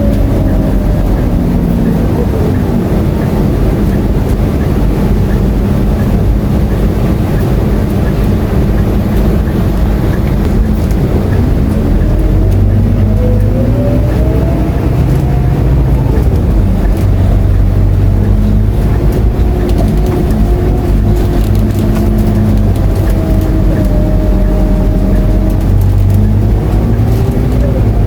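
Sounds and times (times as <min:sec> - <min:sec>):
bus engine low drone: 0:00.0 - 0:28.0
driveline whine: 0:00.0 - 0:28.0.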